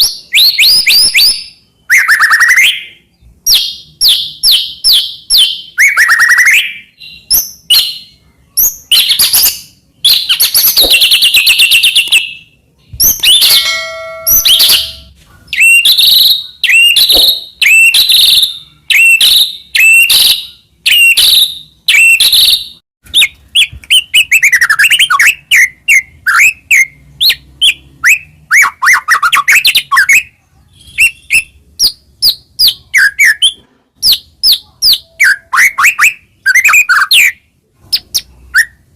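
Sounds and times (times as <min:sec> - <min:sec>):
songbird singing varied whistles: 0:00.0 - 0:13.7, 0:14.3 - 0:37.4, 0:38.0 - 0:38.8.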